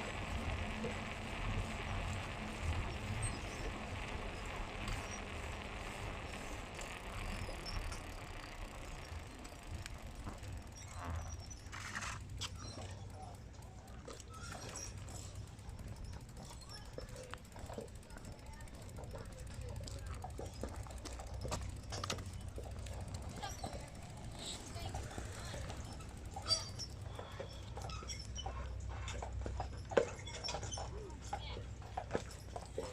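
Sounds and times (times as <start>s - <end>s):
bicycle tyre rumble: 0.0s - 31.2s.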